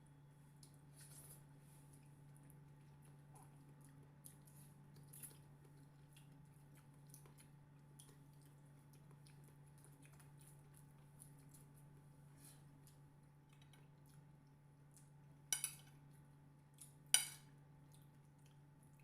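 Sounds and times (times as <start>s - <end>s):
soft wet chewing: 0.3s - 19.0s.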